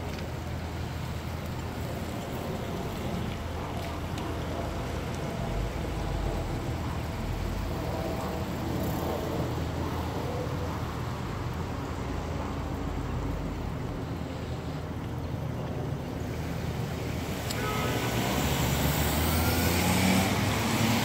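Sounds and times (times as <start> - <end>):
cars passing and idling: 0.0 - 21.0.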